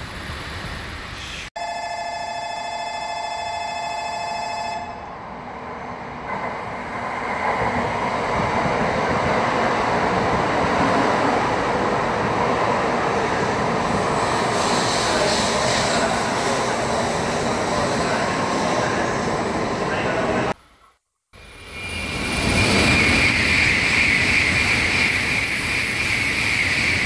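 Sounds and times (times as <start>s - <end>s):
train rushing along platform: 0.0s - 1.5s, 4.4s - 20.6s, 21.4s - 27.0s.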